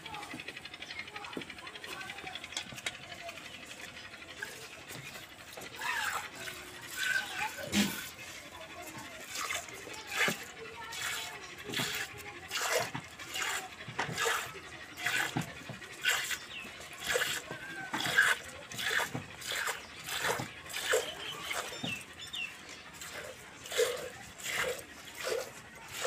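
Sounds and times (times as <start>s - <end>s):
milk squirting into a metal bucket: 4.4s - 26.0s.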